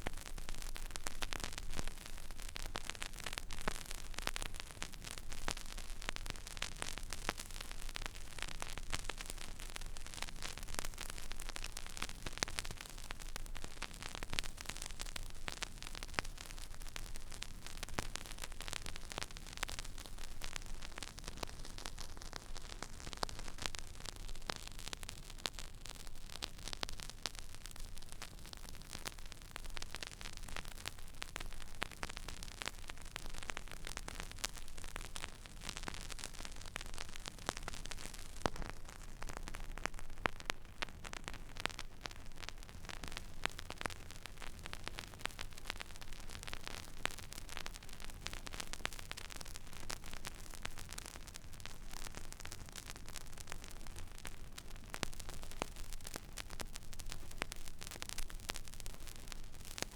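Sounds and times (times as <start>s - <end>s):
vinyl crackles and clicks: 0.0s - 59.9s
vinyl record surface hiss: 0.0s - 59.9s.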